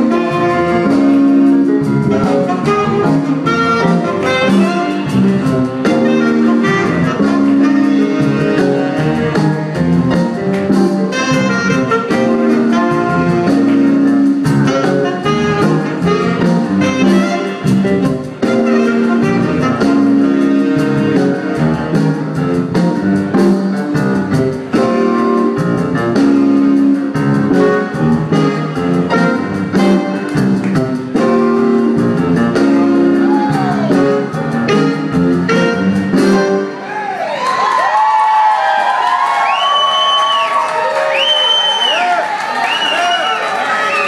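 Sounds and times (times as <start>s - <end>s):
jazz band with saxophones: 0.0s - 44.0s.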